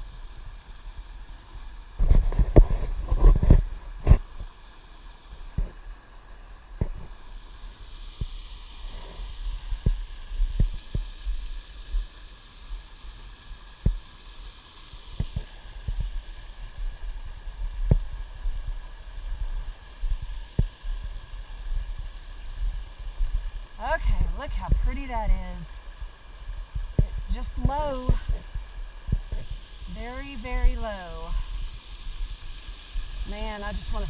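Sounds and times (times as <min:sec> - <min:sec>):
faint hiss: 0:00.0 - 0:34.0.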